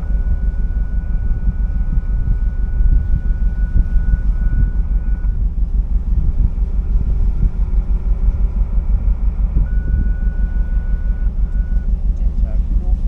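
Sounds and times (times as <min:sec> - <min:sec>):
steady high tone: 0:00.0 - 0:11.8
low outdoor rumble: 0:00.0 - 0:13.0.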